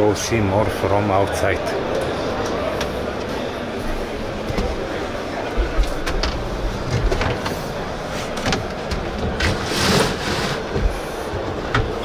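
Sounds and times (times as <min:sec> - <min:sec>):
crowd hubbub: 0:00.0 - 0:12.0.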